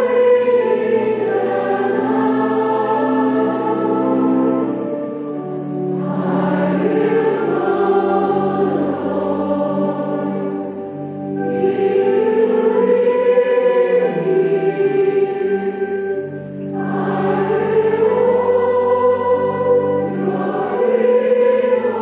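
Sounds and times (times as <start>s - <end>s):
choir and congregation singing hymn: 0.0s - 22.0s
held accompanying chords: 0.0s - 22.0s.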